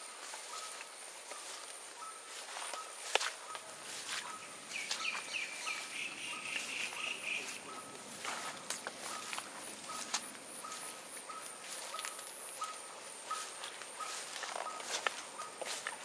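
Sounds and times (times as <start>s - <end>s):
bird calling with trill: 0.0s - 16.0s
high insect drone: 0.0s - 16.0s.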